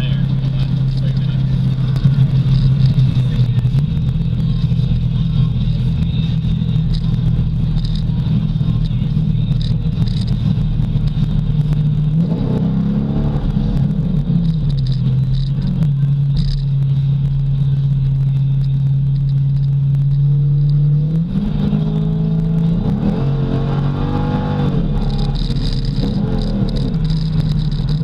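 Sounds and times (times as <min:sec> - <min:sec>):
car engine drone from cabin: 0:00.0 - 0:28.0.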